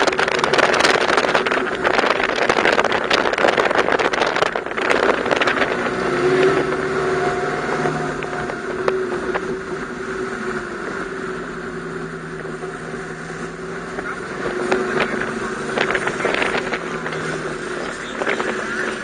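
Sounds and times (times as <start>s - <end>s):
car engine running hard: 0.0s - 19.0s
wind buffeting microphone: 0.0s - 19.0s.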